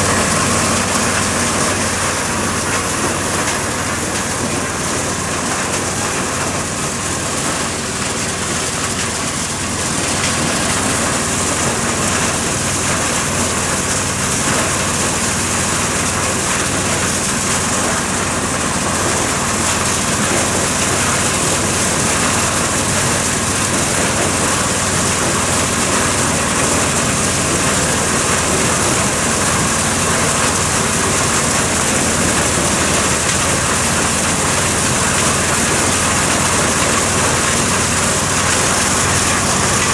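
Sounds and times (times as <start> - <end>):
corn sheller mechanical din: 0.0 - 39.9
engine hum: 0.0 - 39.9.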